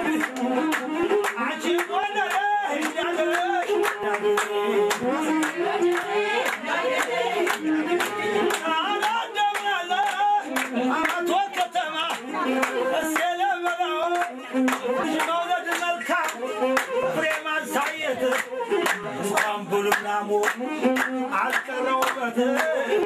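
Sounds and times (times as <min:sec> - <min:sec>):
people clapping in rhythm: 0:00.0 - 0:23.0
people singing: 0:00.0 - 0:23.0.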